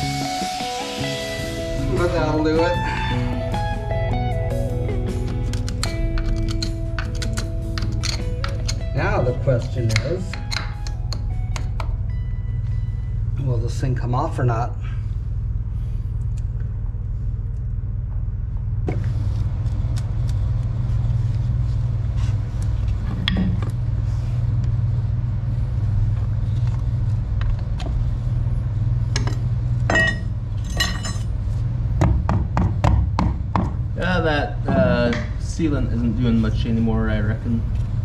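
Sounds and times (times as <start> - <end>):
low machine rumble: 0.0 - 38.0.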